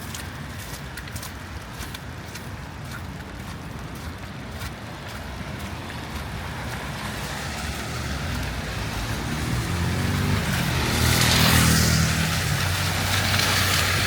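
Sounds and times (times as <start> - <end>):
tyres hissing on wet street: 0.0 - 14.0.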